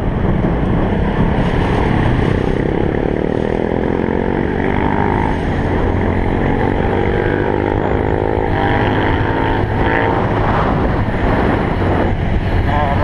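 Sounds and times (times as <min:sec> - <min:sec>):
motorcycle engine accelerating: 0:00.0 - 0:13.0
wind rush on microphone: 0:00.0 - 0:13.0.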